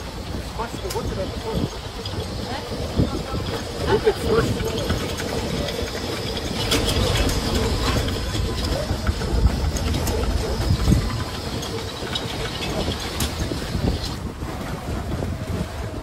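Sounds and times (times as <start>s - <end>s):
boat engine rumbling: 0.0s - 16.0s
wind on microphone: 0.0s - 16.0s.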